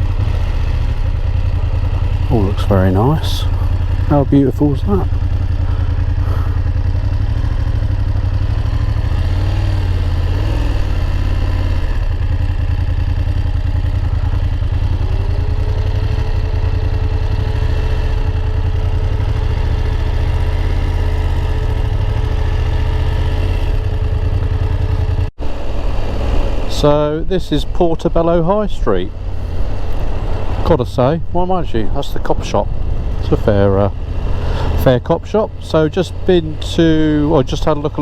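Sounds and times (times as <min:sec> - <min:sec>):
motorcycle engine droning: 0:00.0 - 0:38.0.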